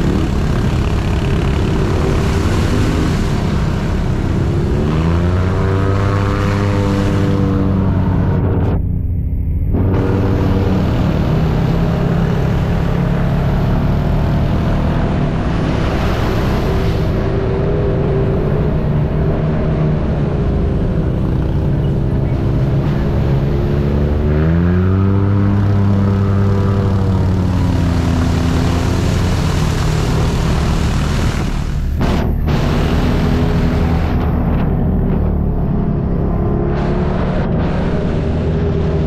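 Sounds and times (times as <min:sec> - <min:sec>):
utility vehicle engine accelerating: 0:00.0 - 0:39.0.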